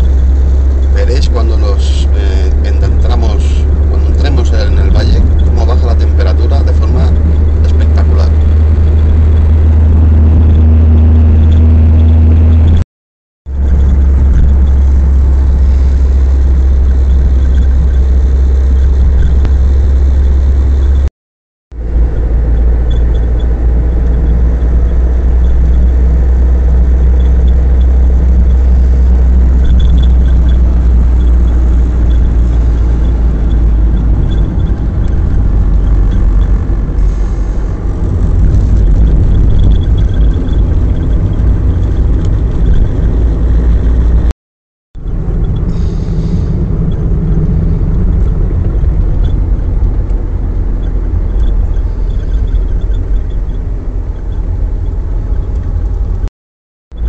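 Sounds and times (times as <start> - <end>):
car engine rumble: 0.0 - 12.8, 13.4 - 21.1, 21.7 - 44.3, 45.0 - 56.3
road noise: 0.0 - 12.8, 13.5 - 21.1, 21.7 - 44.3, 45.0 - 56.3.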